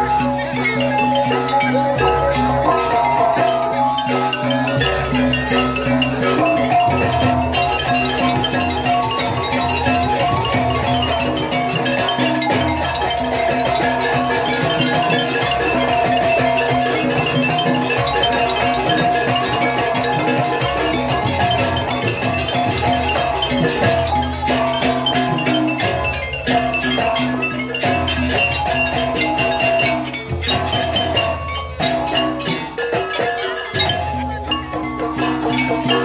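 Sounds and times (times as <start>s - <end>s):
drumming: 0.0s - 36.0s
metallophones ringing: 0.0s - 36.0s.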